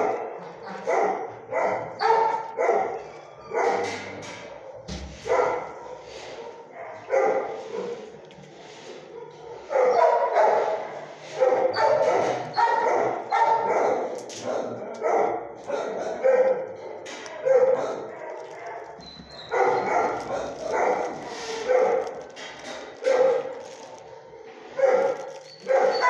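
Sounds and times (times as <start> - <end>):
dog barking: 0.0 - 8.2, 8.9 - 26.0.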